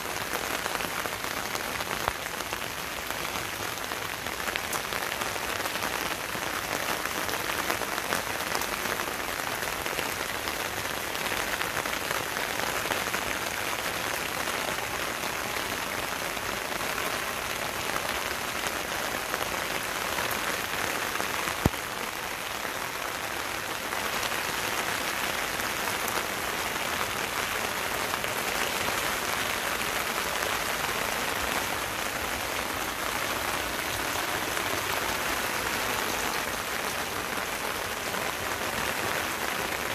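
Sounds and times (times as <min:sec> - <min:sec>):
rain falling on leaves and paving: 0:00.0 - 0:39.9.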